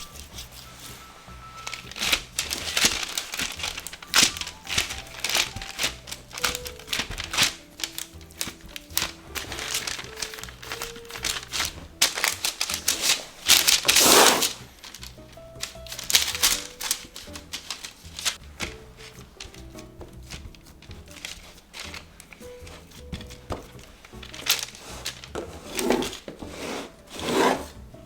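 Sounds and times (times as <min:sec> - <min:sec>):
paper crinkling and rustling: 0:00.0 - 0:27.8
soft background music: 0:00.0 - 0:28.0.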